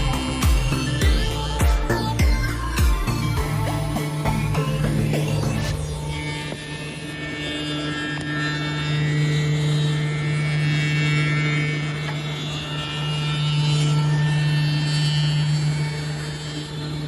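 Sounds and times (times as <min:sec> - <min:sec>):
high whining tones: 0:00.0 - 0:17.0
milling machine motor hum: 0:00.0 - 0:17.0.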